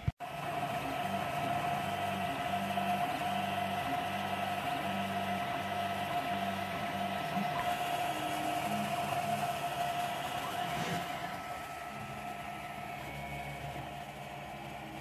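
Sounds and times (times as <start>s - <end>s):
cooling fan humming: 0.0s - 15.0s
stepper motors whining: 0.3s - 15.0s.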